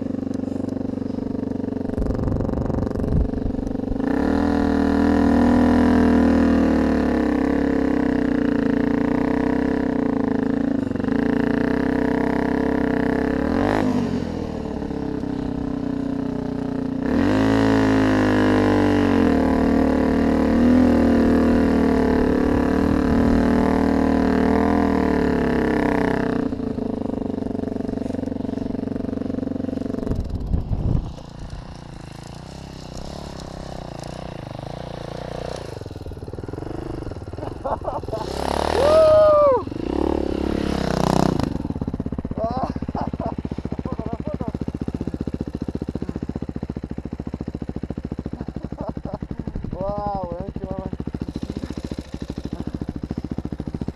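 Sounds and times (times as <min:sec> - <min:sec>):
vehicle engine revving: 0:00.0 - 0:16.3, 0:17.0 - 0:53.9.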